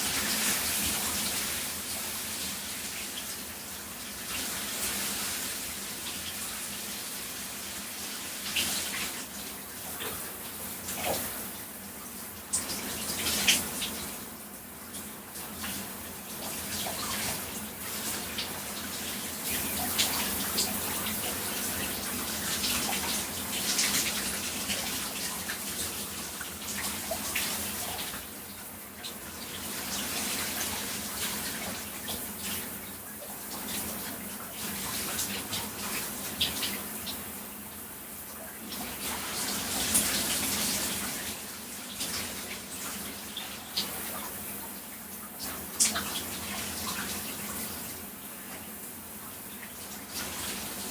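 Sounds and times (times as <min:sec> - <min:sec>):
shower water splashing on body: 0:00.0 - 0:50.9.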